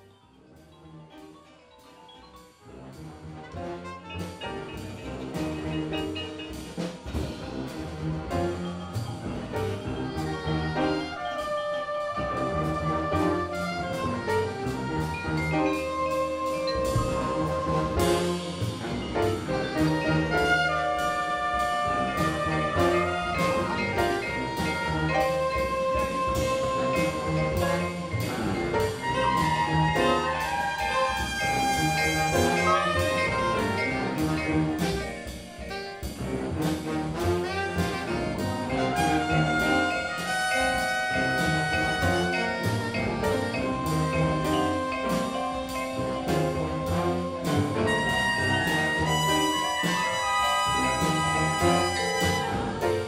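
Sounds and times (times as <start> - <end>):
instrumental music with steady beat: 0.0 - 53.0.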